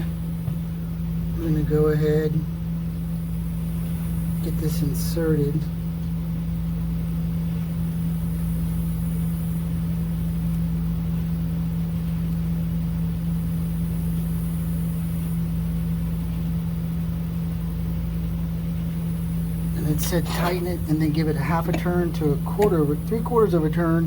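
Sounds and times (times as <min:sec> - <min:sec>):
electric fan humming: 0:00.0 - 0:24.0.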